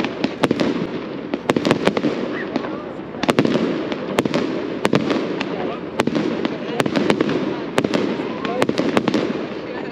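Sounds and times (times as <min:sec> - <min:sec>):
background hubbub: 0:00.0 - 0:09.9
fireworks bangs and crackling: 0:00.0 - 0:09.9.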